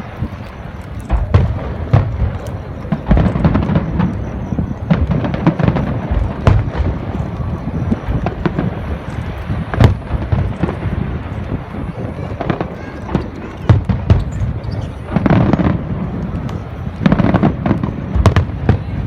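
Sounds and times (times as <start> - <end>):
continuous rumble: 0.0 - 19.0
fireworks booming: 0.0 - 19.0.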